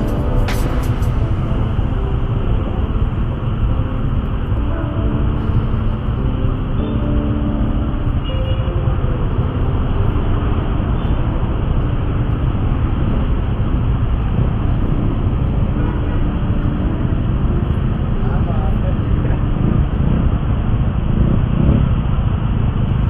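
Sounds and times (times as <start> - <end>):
scooter engines idling: 0.0 - 21.2.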